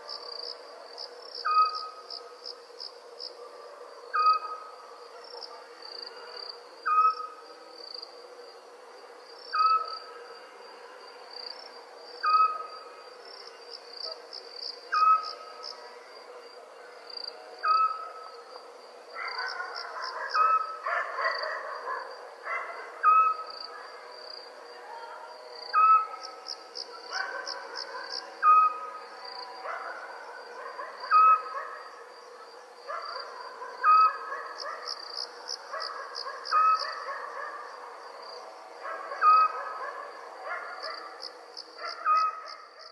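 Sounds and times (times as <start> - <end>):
crickets trilling: 0.0 - 42.9.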